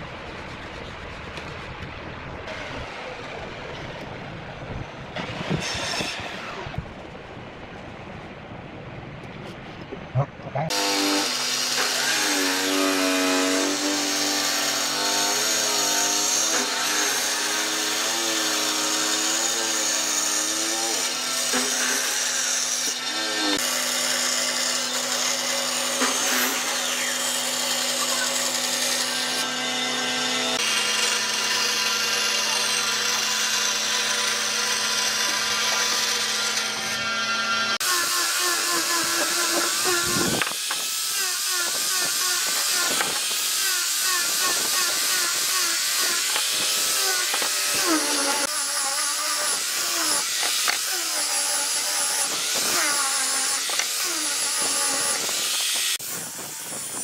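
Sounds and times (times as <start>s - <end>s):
band saw cutting wood: 5.2s - 6.8s, 10.7s - 57.0s
angle grinder sanding wood: 10.7s - 57.0s.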